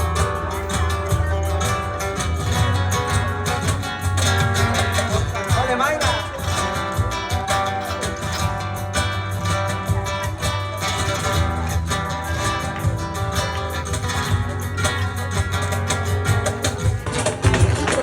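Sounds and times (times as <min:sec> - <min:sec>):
strummed acoustic guitar music: 0:00.0 - 0:18.0.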